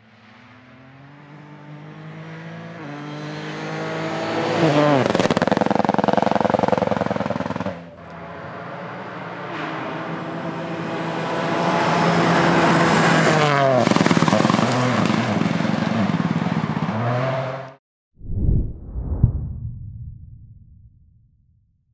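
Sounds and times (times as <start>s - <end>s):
rally car engine at full throttle: 0.0s - 17.8s.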